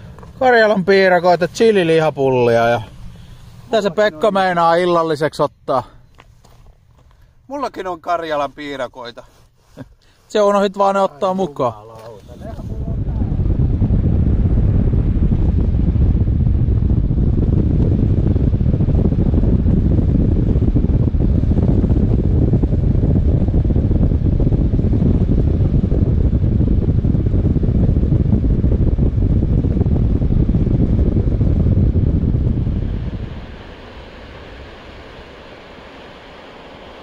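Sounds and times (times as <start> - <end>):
wind buffeting microphone: 0.0 - 5.0, 11.2 - 37.0.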